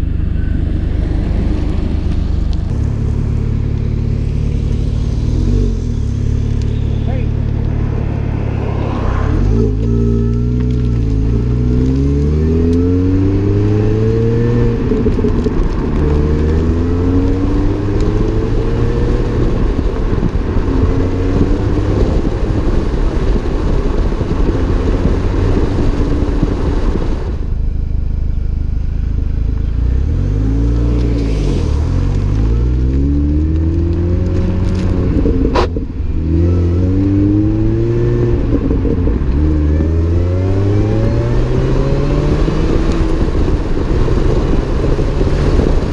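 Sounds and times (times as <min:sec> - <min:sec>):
car engine accelerating: 0:00.0 - 0:45.9
supercharger whine: 0:00.0 - 0:45.9.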